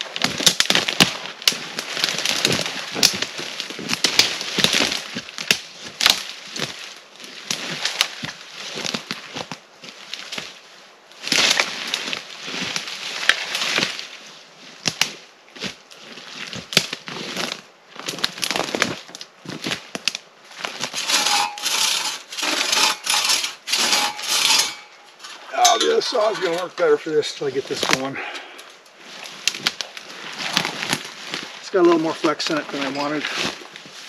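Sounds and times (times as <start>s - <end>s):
dry branches crunching and snapping: 0.0s - 34.0s.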